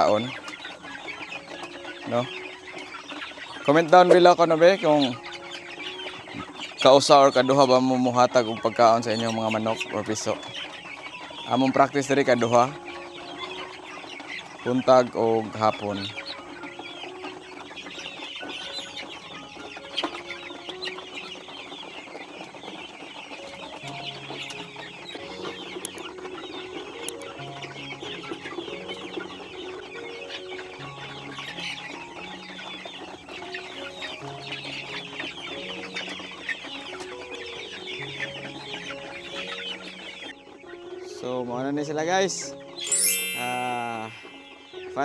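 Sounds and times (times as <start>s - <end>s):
chicks peeping and chirping: 0.0s - 45.0s.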